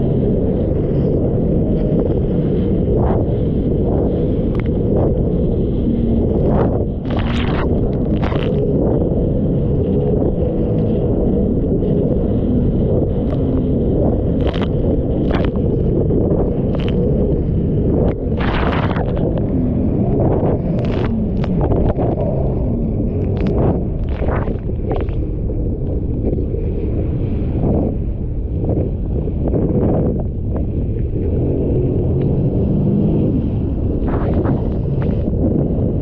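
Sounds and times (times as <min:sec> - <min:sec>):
watercraft engine rumble: 0:00.0 - 0:36.0
wind buffeting microphone: 0:00.0 - 0:36.0.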